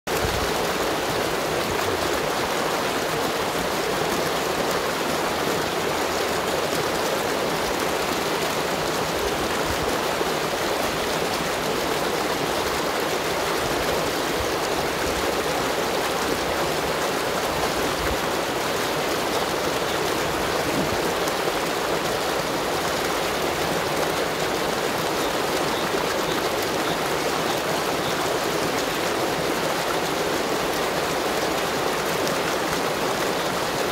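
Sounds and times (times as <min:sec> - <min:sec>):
stream water rushing over rock: 0:00.1 - 0:33.9.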